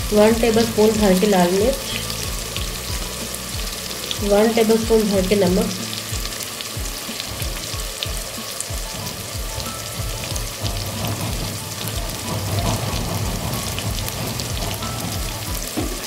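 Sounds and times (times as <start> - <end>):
background music with low beat: 0.0 - 16.0
vegetables sizzling in hot oil: 0.0 - 16.0.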